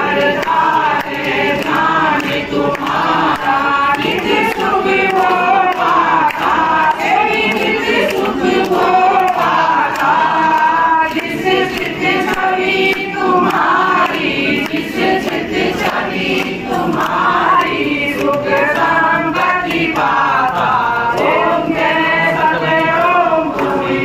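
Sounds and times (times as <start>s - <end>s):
congregation singing a hymn: 0.0s - 24.0s.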